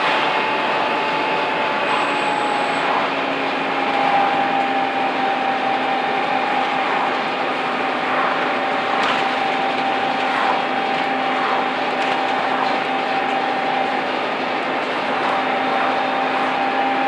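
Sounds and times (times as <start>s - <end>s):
bus engine whine and thrash: 0.0s - 17.0s.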